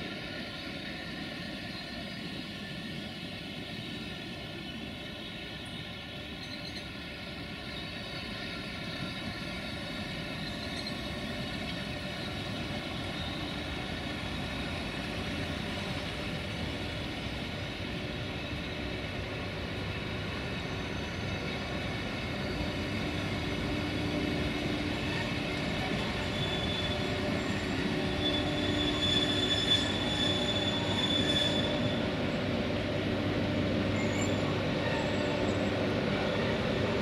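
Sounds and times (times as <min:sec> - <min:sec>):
locomotive engine drone: 0:00.0 - 0:37.0.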